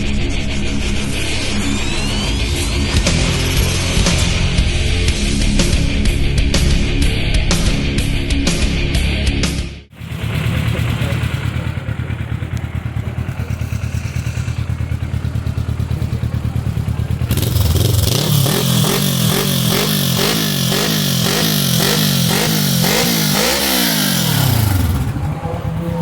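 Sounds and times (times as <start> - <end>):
motorcycle engine revving: 0.0 - 8.2, 9.9 - 26.0.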